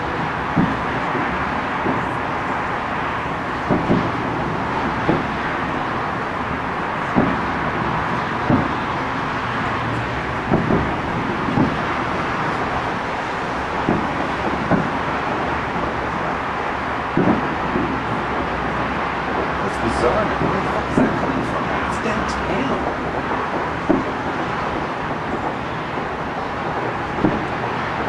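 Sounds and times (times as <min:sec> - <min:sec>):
city and traffic hum: 0:00.0 - 0:28.0
distant fireworks bangs: 0:00.0 - 0:28.0.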